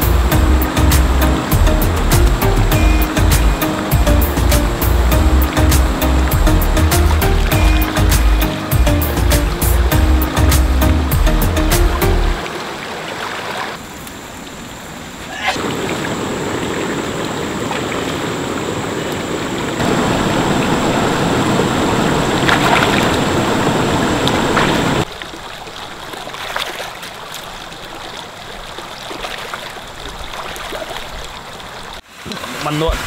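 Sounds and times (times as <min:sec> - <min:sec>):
river water running over rocks: 0:00.0 - 0:33.0.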